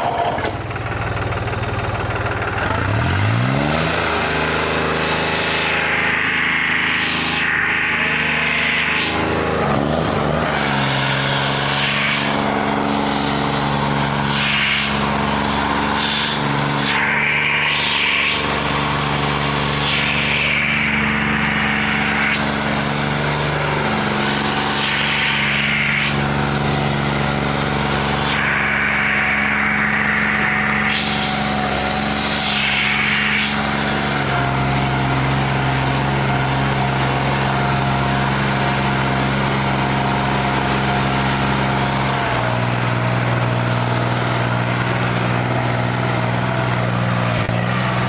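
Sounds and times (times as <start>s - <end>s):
tractor engine under load: 0.0s - 48.0s.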